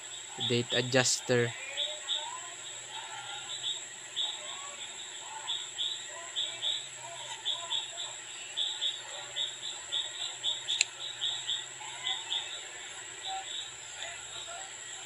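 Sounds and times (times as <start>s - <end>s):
animals chirping: 0.0s - 15.0s
faint high whine: 0.0s - 15.0s.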